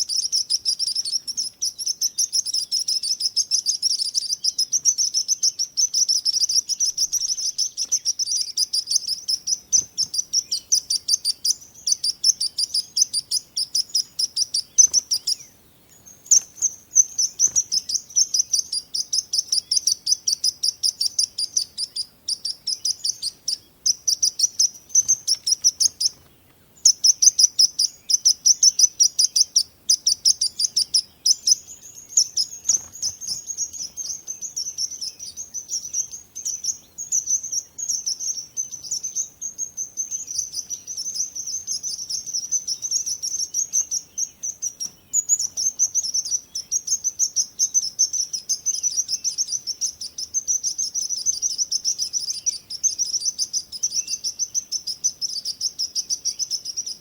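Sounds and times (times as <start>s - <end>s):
small birds chirping rapidly: 0.0s - 57.0s.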